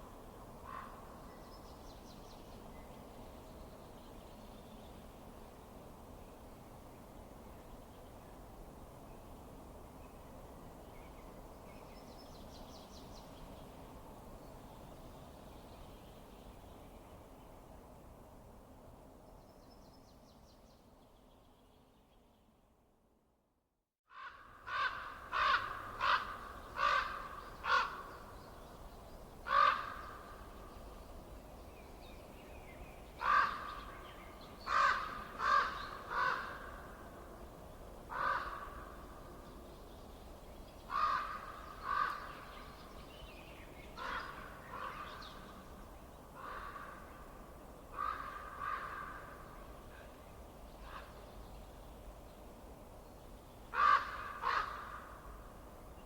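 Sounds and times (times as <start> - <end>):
faint steady background noise: 0.0 - 56.0.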